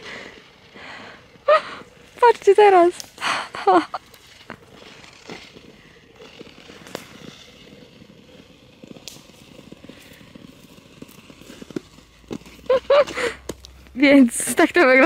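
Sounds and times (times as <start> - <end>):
ice skates scraping on ice: 0.0 - 15.0
faint ice clicks and ticks: 0.1 - 15.0.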